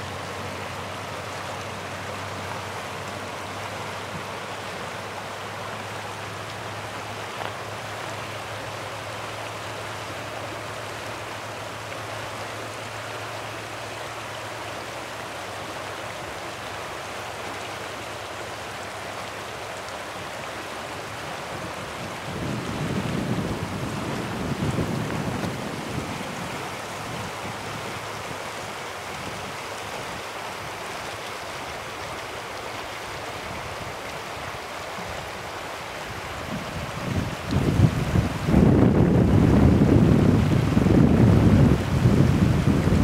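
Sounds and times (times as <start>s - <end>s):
river water rushing over rocks: 0.0s - 43.0s.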